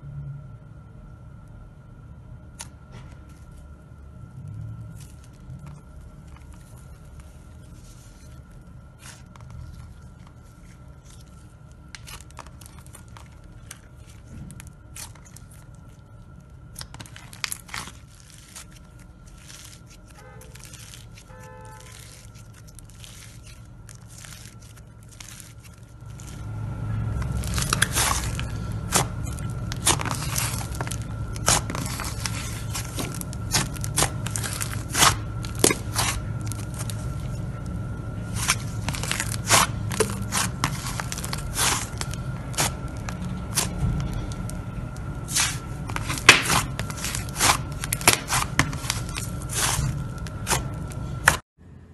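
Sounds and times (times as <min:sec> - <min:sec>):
low rumble of kneading: 0:00.0 - 0:51.9
hands squishing slime: 0:04.9 - 0:51.4.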